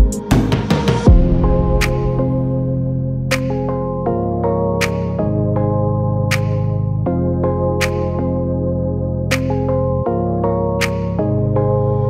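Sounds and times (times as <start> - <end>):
synthesizer chords: 0.0 - 12.0.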